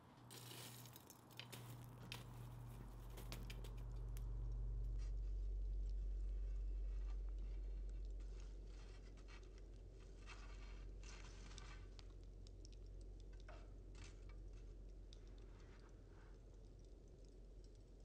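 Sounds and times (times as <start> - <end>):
coal fire crackling: 0.0 - 18.0.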